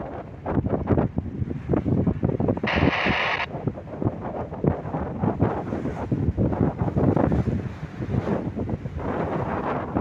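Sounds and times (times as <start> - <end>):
choppy sea: 0.0 - 10.0
wind buffeting microphone: 0.0 - 10.0.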